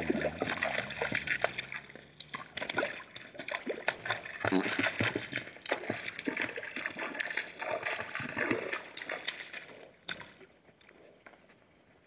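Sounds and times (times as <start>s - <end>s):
animals splashing in water: 0.0s - 10.4s.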